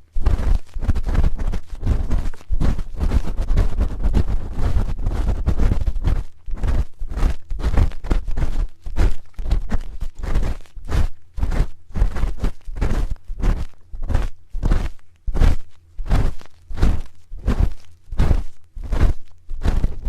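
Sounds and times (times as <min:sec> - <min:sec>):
microphone handling rumble: 0:00.0 - 0:20.0.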